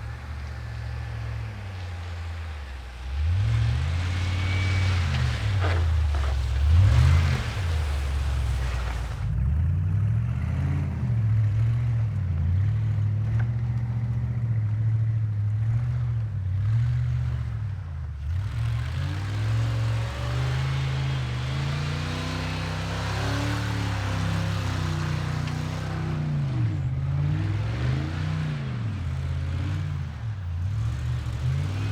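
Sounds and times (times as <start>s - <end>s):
vehicle engine revving: 0.0s - 31.9s.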